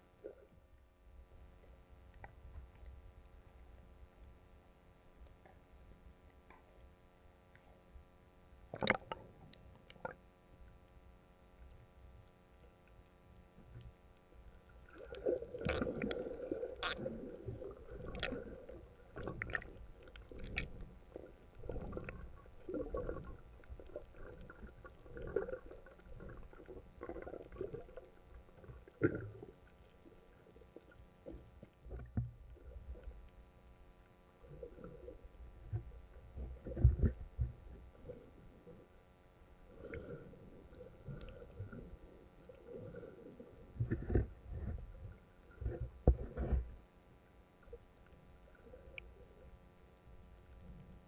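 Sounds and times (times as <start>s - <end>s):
muffled underwater water gurgling: 0.0s - 51.0s.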